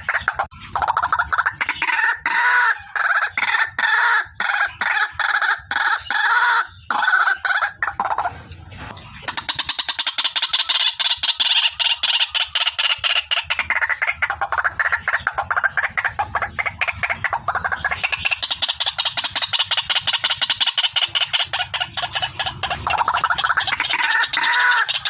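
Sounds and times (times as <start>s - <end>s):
waterhen calling: 0.0s - 25.0s.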